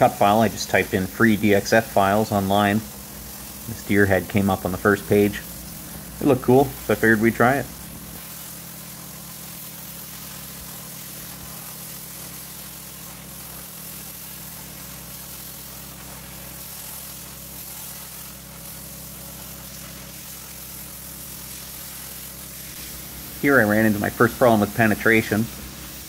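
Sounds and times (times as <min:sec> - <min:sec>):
plasma cutter arc hissing: 0:00.0 - 0:26.0
steady low hum: 0:00.0 - 0:26.0.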